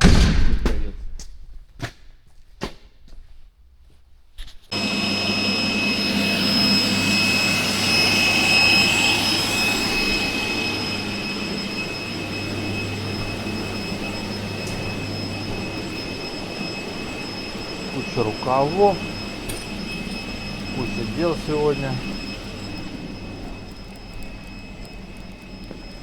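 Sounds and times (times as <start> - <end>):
high whine: 4.7 - 26.0
machine roaring: 4.7 - 26.0.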